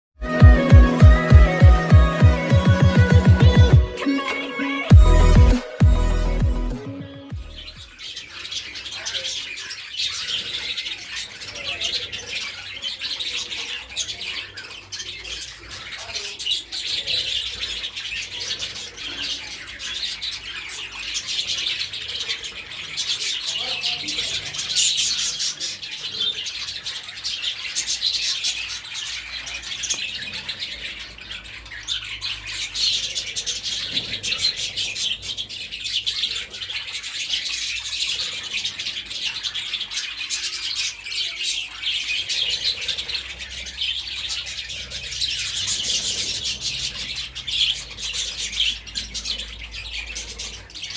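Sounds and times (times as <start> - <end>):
budgerigars chattering: 7.4 - 50.9.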